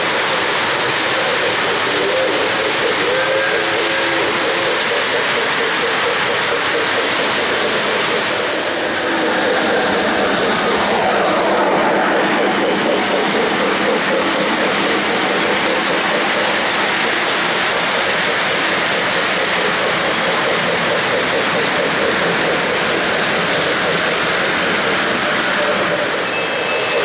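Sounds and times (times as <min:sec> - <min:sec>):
model train wheels clattering on rails: 0:00.0 - 0:27.0.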